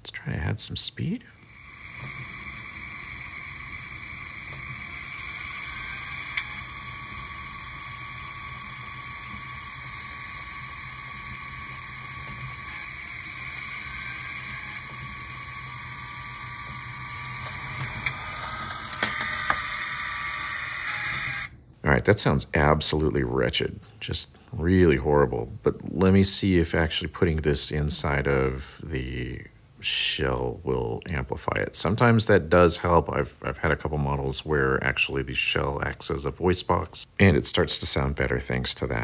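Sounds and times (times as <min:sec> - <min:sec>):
harsh static-like hiss: 0:00.0 - 0:39.0.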